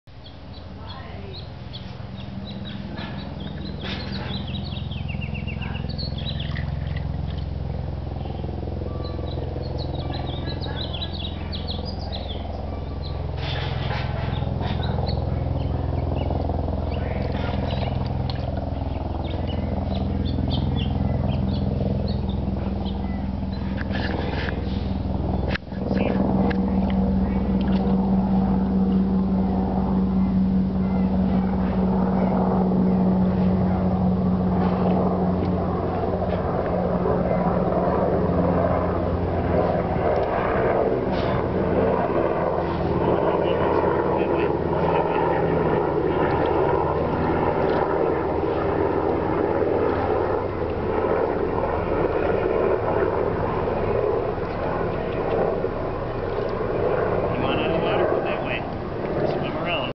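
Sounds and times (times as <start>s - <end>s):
birds chirping: 0.1s - 59.9s
motor hum: 0.1s - 59.9s.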